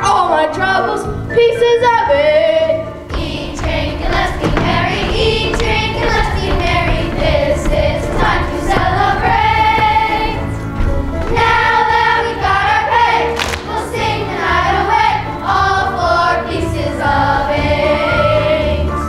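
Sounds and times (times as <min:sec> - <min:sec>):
children's choir singing: 0:00.0 - 0:19.0
musical accompaniment: 0:00.0 - 0:19.0.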